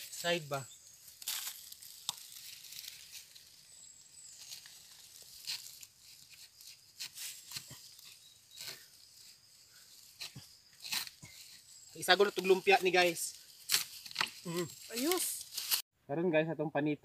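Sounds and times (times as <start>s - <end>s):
dry leaf litter crackling and rustling: 0.0s - 15.8s.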